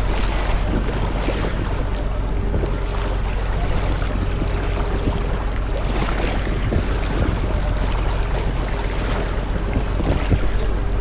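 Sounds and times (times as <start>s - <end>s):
sea surf washing: 0.0s - 11.0s
wind rumbling on microphone: 0.0s - 11.0s.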